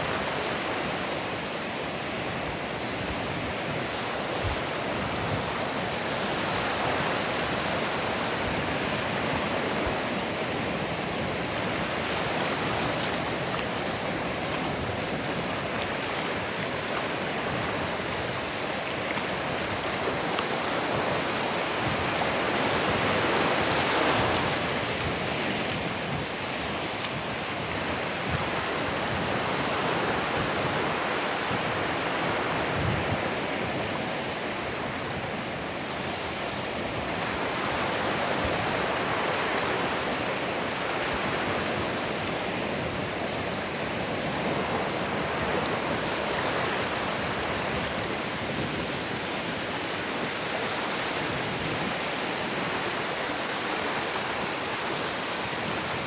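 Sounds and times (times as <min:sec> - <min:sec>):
surf washing onto beach: 0:00.0 - 0:56.0.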